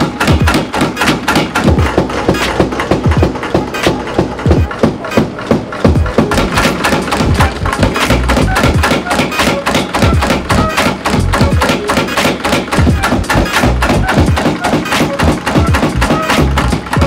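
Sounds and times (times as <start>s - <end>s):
power hammer striking hot steel: 0.0s - 17.0s.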